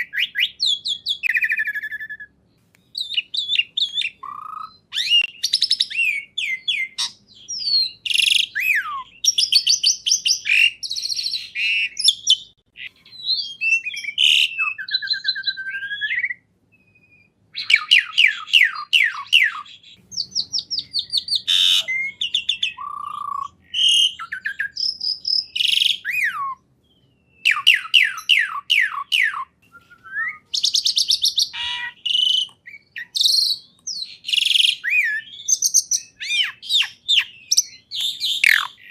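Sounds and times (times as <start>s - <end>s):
songbird singing trills and whistles: 0.0s - 38.9s.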